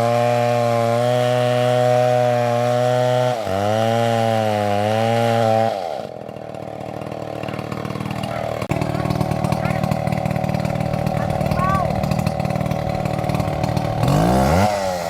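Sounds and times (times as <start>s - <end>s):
chainsaw cutting into tree: 0.0s - 15.0s.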